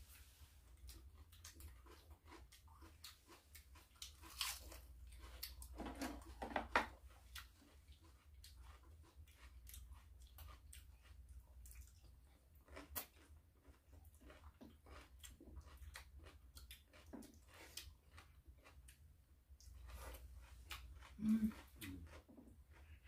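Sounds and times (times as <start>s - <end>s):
chewing and crunching: 0.2s - 23.0s.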